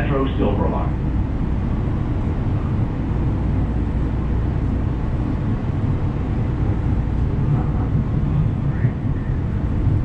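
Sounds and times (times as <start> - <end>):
train rumbling along: 0.0 - 10.0.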